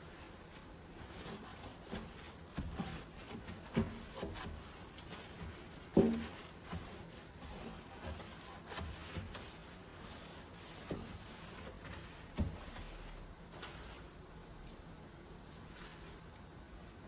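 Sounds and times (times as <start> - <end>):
rubbing: 0.0 - 14.2.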